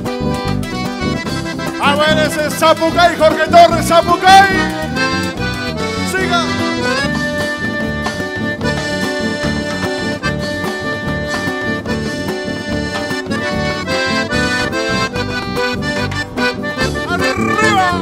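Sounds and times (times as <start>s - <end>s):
accordion: 0.0s - 18.0s
guitar: 0.0s - 18.0s.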